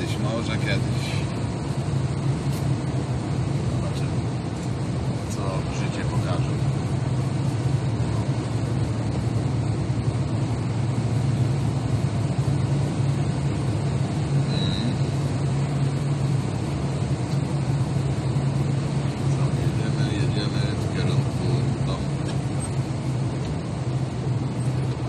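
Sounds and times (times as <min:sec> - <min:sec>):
truck engine and tyre drone: 0:00.0 - 0:25.0.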